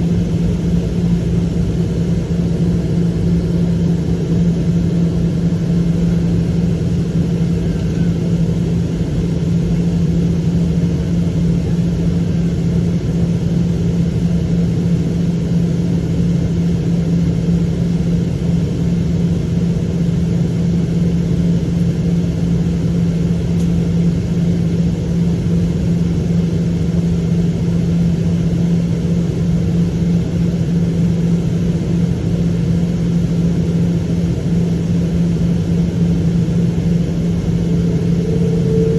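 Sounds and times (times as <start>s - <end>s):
jet engine rumble in cabin: 0.0s - 38.9s.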